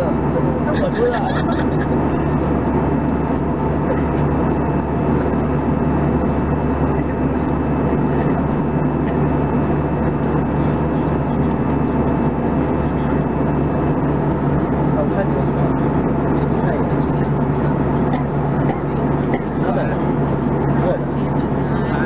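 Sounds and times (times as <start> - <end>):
constant low hum: 0.0 - 22.0
jet engine drone: 0.0 - 22.0.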